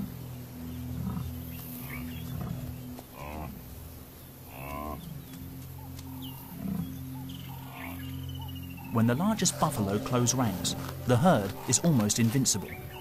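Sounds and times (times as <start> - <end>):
buffalo lowing: 0.0 - 13.0
steady low hum: 0.0 - 13.0.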